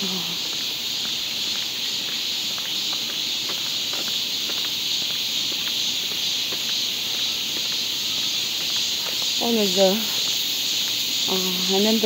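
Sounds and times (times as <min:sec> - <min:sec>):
insect chorus: 0:00.0 - 0:12.0
small clicks and rustles: 0:00.4 - 0:11.1.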